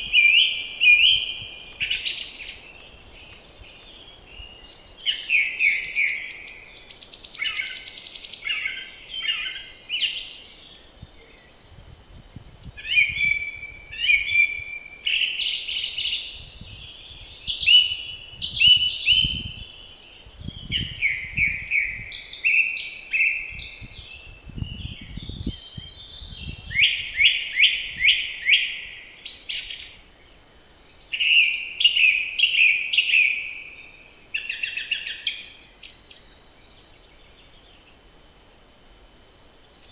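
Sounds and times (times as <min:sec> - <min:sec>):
low wind gusts: 0:00.0 - 0:39.9
songbirds singing: 0:00.0 - 0:39.9.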